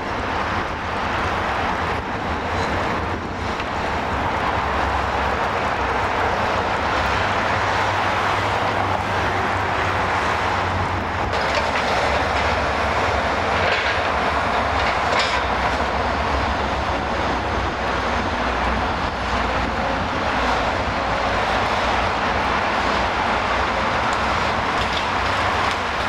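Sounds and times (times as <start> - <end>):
excavator engine running: 0.0 - 26.0.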